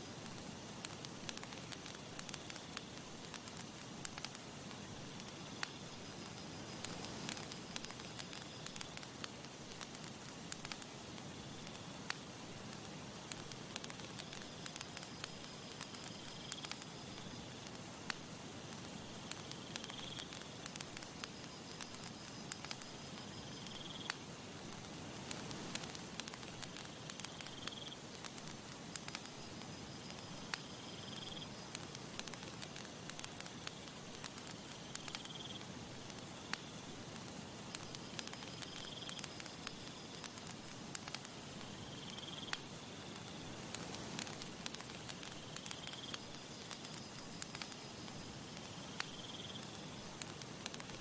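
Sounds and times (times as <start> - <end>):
insect trill: 0.0 - 12.3, 13.3 - 18.1, 18.7 - 51.0
breeze hiss: 0.0 - 51.0
campfire crackling and popping: 0.0 - 51.0.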